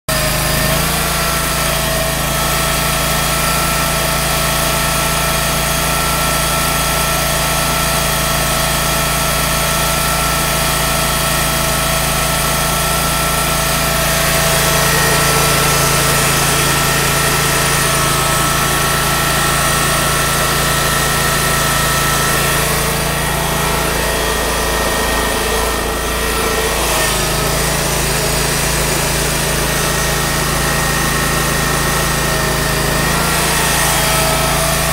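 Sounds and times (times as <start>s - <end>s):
small gas engine running: 0.0s - 34.9s.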